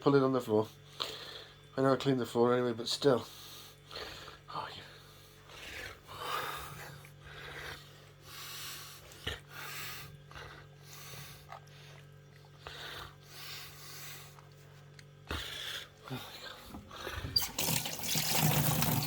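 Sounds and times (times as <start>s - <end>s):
steady low hum: 0.0s - 17.7s
heavy breathing: 0.6s - 1.7s, 3.2s - 17.4s.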